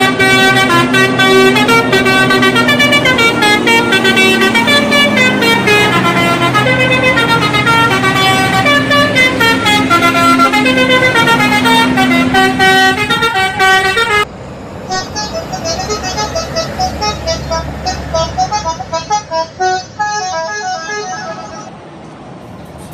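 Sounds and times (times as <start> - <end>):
multi-tone bus horn melody: 0.0 - 21.8.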